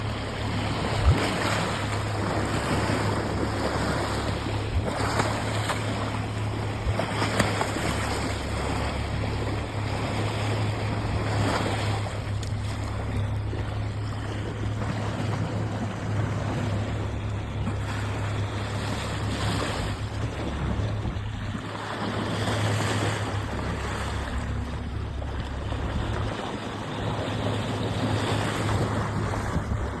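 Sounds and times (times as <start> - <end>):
wind on microphone: 0.0 - 13.8, 17.7 - 30.0
motorboat running: 0.0 - 30.0
water rushing past hull: 0.0 - 30.0.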